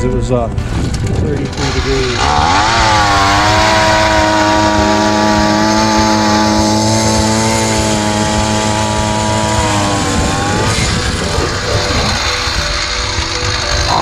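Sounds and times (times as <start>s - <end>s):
ice auger engine running: 0.6s - 14.0s.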